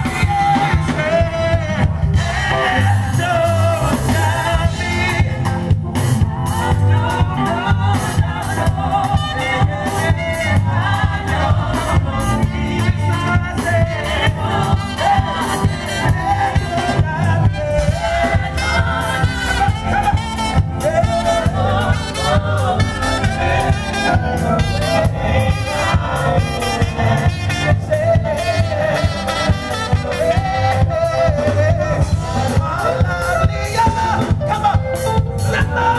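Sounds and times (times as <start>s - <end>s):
gospel band playing: 0.0s - 35.9s
steady drum beat: 0.0s - 35.9s.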